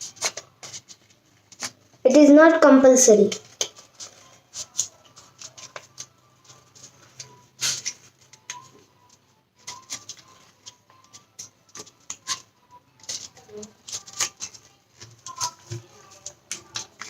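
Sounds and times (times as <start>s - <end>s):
paper being folded and creased: 0.0s - 2.0s, 3.4s - 8.8s, 9.6s - 17.0s.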